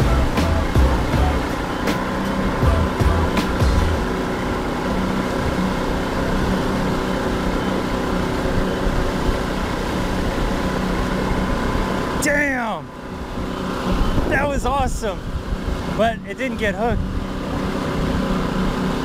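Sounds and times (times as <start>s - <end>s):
boat wake rushing: 0.0s - 19.0s
outboard motor running: 0.0s - 19.0s
wind: 0.0s - 19.0s.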